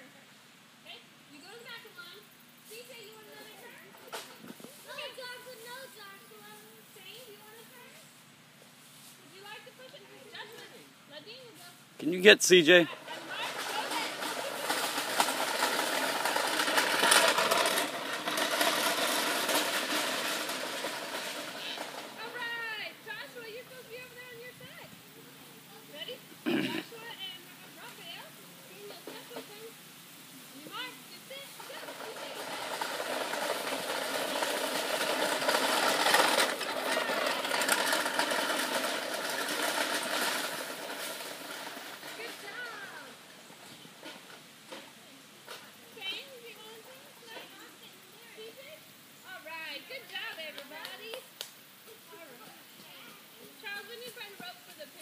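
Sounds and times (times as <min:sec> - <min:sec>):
plastic toy wheels rattling on dirt: 0:01.4 - 0:08.0, 0:12.0 - 0:29.8, 0:30.6 - 0:55.0.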